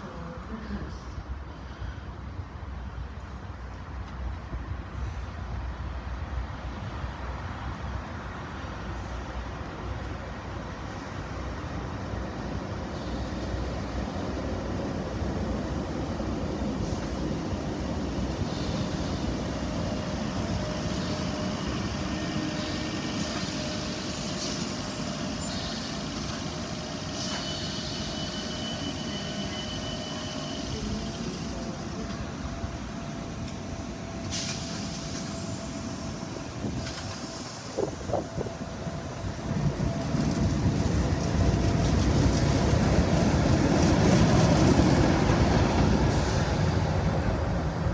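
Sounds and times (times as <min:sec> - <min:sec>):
multi-tone train whine: 0:00.0 - 0:47.9
train rumble: 0:00.0 - 0:47.9.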